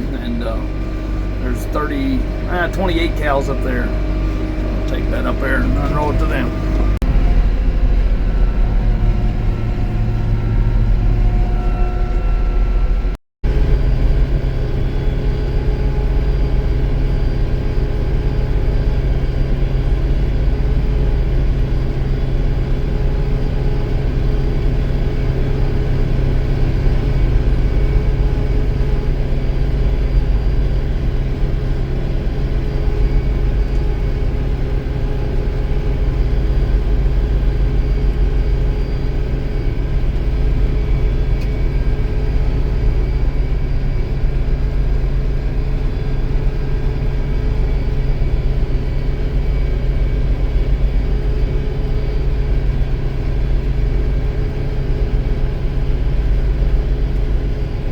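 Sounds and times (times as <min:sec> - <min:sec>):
tractor engine running: 0:00.0 - 0:12.7, 0:13.6 - 0:57.9.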